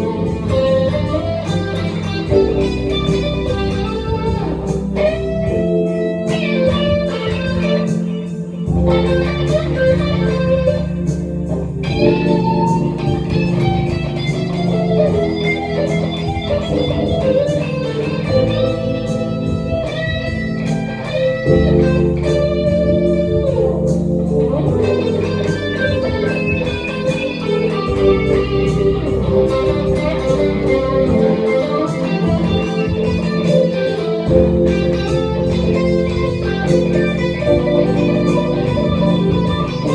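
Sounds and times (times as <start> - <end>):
electric guitar lead lines: 0.0 - 39.9
sustained low bass notes: 0.0 - 39.9.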